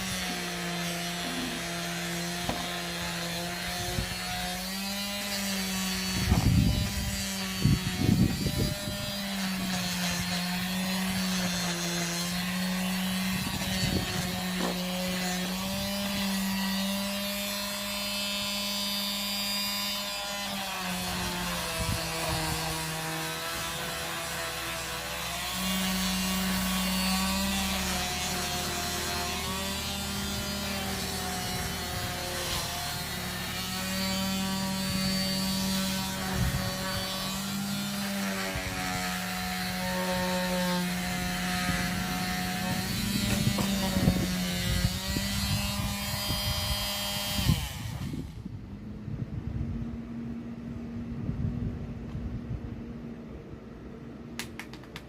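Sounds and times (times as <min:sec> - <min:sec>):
electric disc sander on wood: 0:00.0 - 0:48.3.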